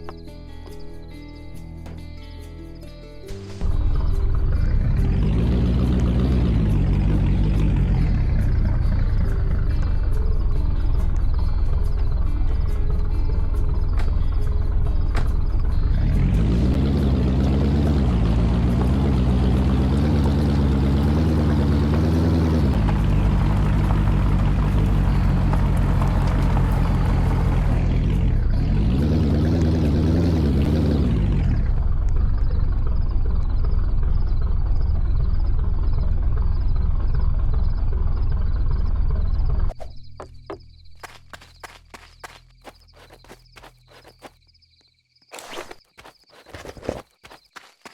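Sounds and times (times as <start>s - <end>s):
engine humming: 0.0s - 47.9s.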